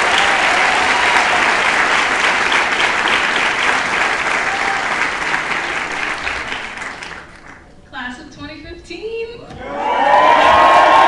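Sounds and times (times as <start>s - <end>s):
audience applauding and cheering: 0.0s - 7.7s, 9.6s - 11.0s.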